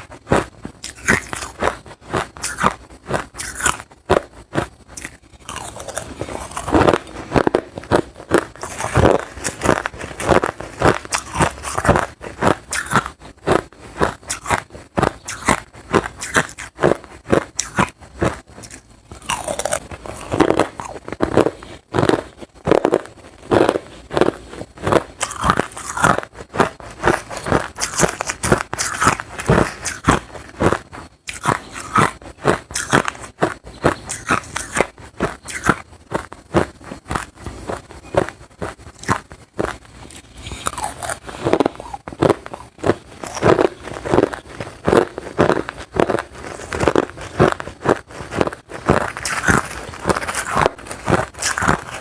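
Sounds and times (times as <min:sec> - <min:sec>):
chewing crushed ice: 0:00.0 - 0:52.0.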